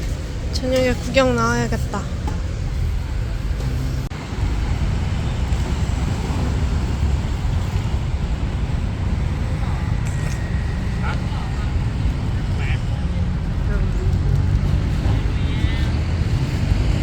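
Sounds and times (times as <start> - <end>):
passing vehicles rumble: 0.0 - 17.0.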